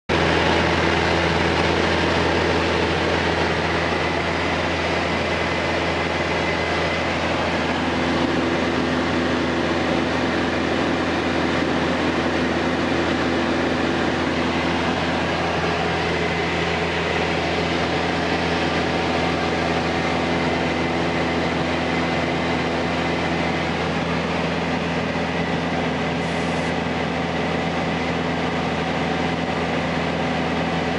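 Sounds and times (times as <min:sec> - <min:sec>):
propeller aircraft engine in cabin: 0:00.1 - 0:30.9.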